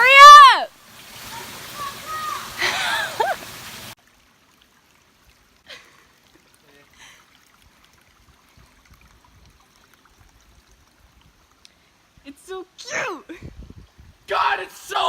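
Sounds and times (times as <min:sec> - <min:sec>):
rushing stream water: 0:00.0 - 0:15.0.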